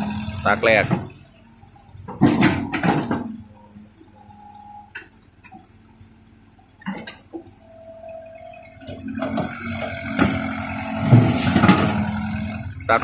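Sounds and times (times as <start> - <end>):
excavator machine noise: 0.0 - 13.0.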